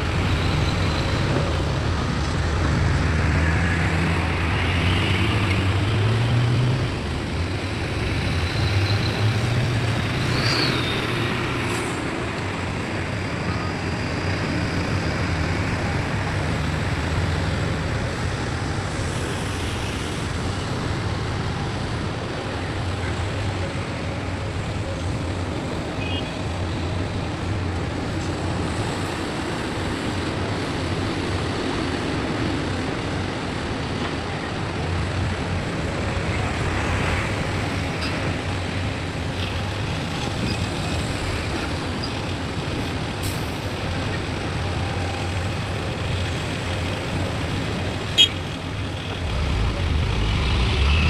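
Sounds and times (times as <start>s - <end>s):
heavy diesel engines droning: 0.0s - 51.0s.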